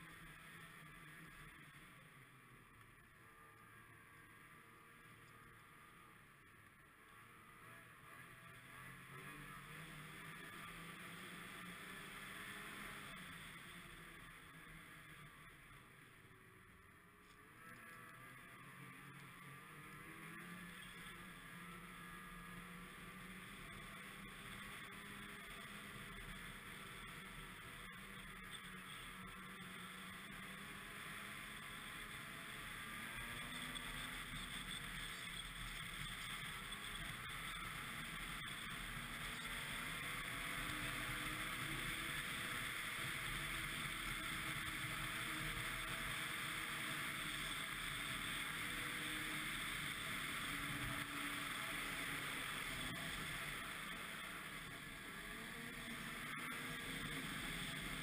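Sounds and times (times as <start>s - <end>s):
snowmobile engine running: 0.1s - 58.0s.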